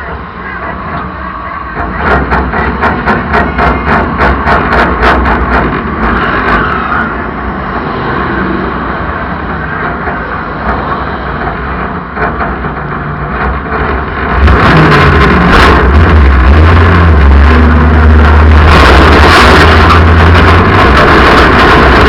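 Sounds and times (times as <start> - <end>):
engine pops: 0.0 - 22.0
race car engine: 0.0 - 22.0.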